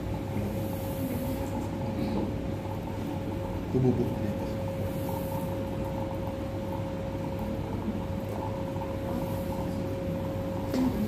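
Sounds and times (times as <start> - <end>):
machine hum with steady tone: 0.0 - 11.0.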